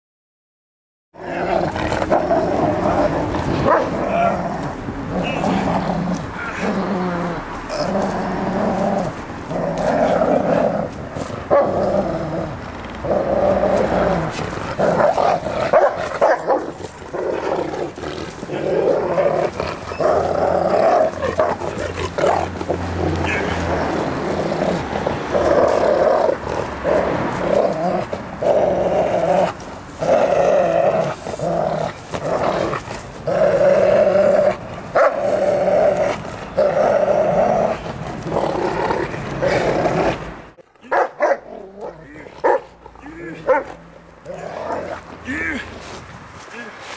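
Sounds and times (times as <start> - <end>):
dog play growling: 1.2 - 40.6, 41.5 - 46.0.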